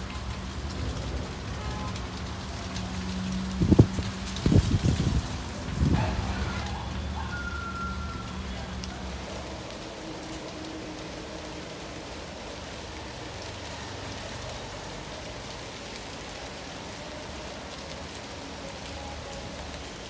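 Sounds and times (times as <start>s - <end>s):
rain on concrete pavement: 0.0s - 20.0s.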